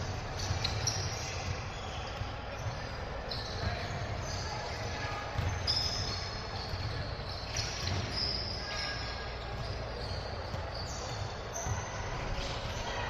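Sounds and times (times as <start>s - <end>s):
basketball bouncing on court: 0.0s - 12.9s
sneaker squeaks: 0.0s - 13.0s
voices in background: 0.1s - 13.0s.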